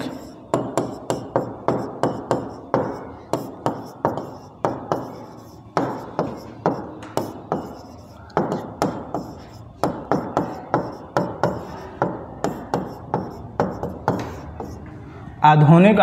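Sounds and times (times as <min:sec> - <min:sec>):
marker writing on whiteboard: 0:00.0 - 0:15.1.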